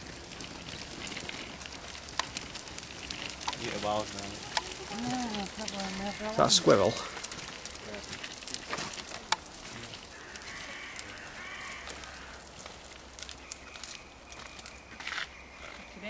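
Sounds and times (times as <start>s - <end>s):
light crackles and ticks: 0.0s - 15.8s
faint distant calls: 0.0s - 16.0s.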